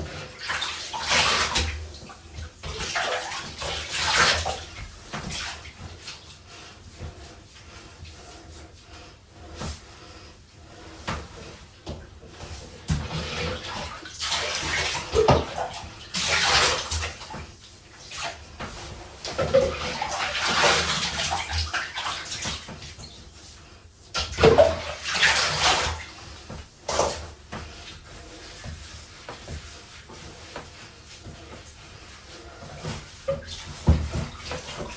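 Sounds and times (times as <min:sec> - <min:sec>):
water splashing in a bathtub: 0:00.0 - 0:34.9.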